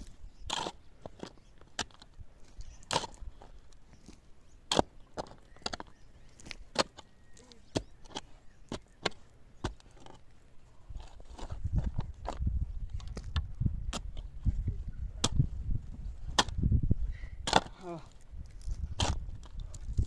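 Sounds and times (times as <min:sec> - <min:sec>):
shovel digging stony soil: 0:00.0 - 0:14.4, 0:16.1 - 0:16.7, 0:17.4 - 0:20.0.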